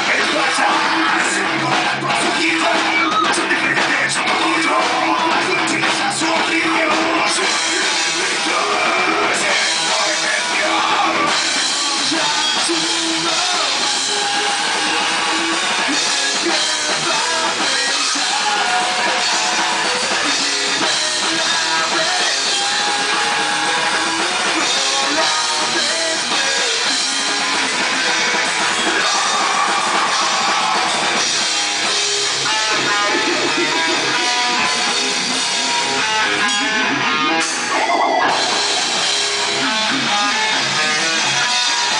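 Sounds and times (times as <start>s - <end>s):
drum kit: 0.0s - 41.9s
guitar: 0.0s - 41.9s.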